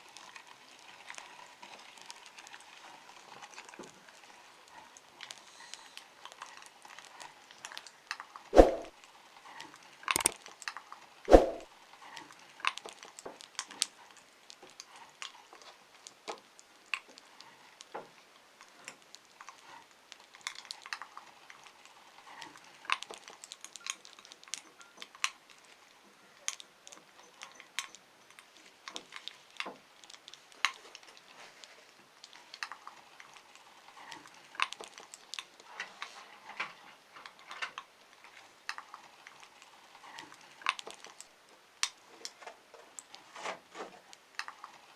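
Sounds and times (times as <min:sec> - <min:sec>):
meat grinder clicking and crackling: 0:00.0 - 0:08.5, 0:11.9 - 0:36.3, 0:37.1 - 0:43.2.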